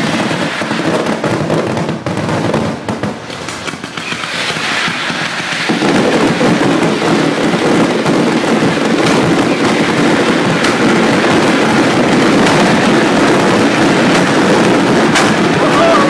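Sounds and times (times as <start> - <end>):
fireworks bangs and crackle: 0.0 - 16.0.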